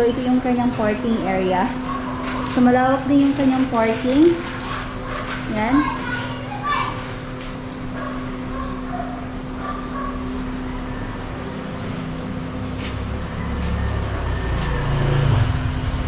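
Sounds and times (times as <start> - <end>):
steady hum: 0.0 - 13.9
vehicle engine rumble: 0.0 - 16.0.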